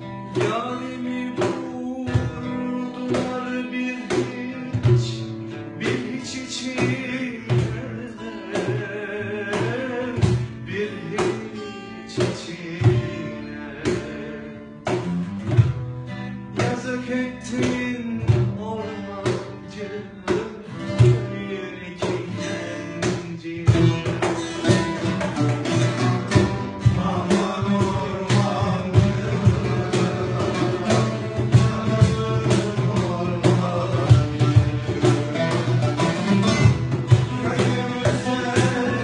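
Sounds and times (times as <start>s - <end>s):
acoustic guitar: 0.0s - 39.0s
cajon and darbuka hits: 0.0s - 39.0s
plucked oud: 0.0s - 39.0s.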